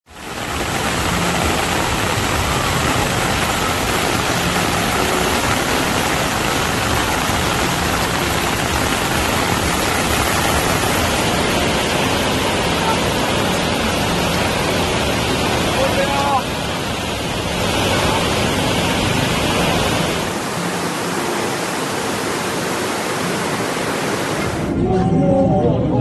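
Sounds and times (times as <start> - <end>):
floodwater rushing: 0.0 - 25.0
heavy rain: 0.0 - 26.0.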